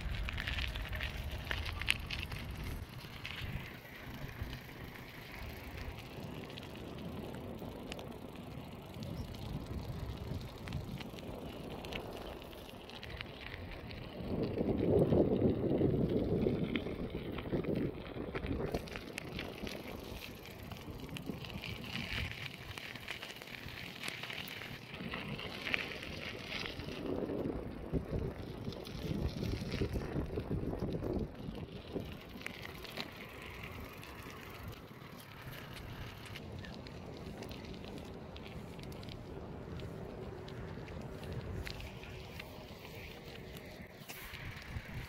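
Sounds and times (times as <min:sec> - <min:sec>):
gravel crunching: 0:00.0 - 0:45.0
wind rumbling on microphone: 0:00.0 - 0:45.0.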